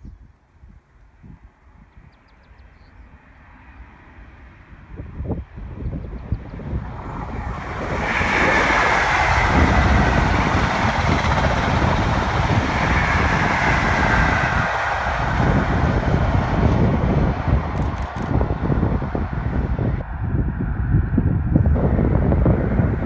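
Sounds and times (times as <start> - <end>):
train passing: 3.1 - 23.0
wind on microphone: 4.5 - 23.0.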